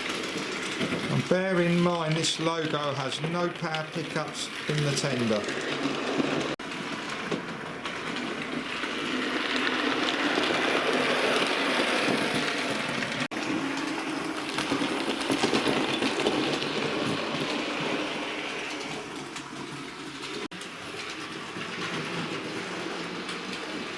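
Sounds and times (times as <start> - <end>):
wheels rattling on rails: 0.0 - 23.9.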